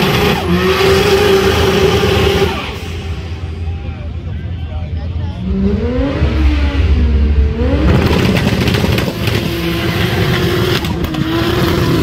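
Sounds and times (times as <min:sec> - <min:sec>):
car engine revving: 0:00.0 - 0:04.2, 0:04.9 - 0:12.0
exhaust rushing: 0:00.0 - 0:12.0.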